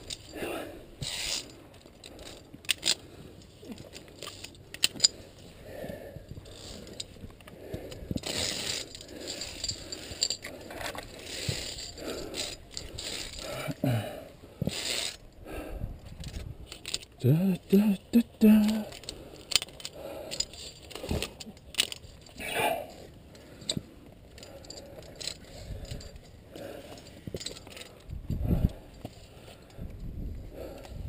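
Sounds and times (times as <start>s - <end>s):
carabiners clicking on steel cable: 0.0s - 15.4s, 16.0s - 31.0s.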